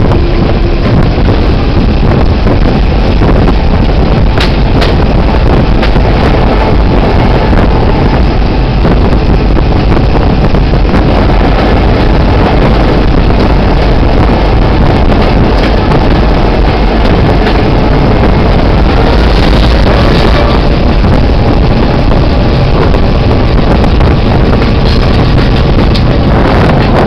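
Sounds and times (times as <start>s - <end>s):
diesel locomotive engine running: 0.0s - 27.0s
wind buffeting microphone: 0.0s - 27.0s.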